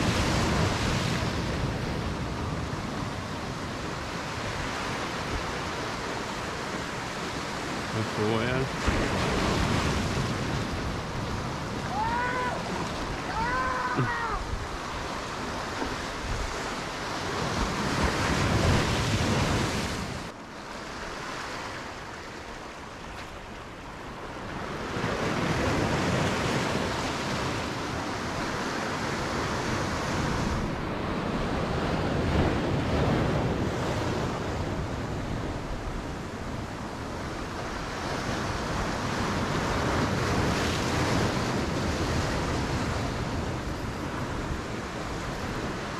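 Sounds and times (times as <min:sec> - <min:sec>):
waves breaking on rocks: 0:00.0 - 0:45.9.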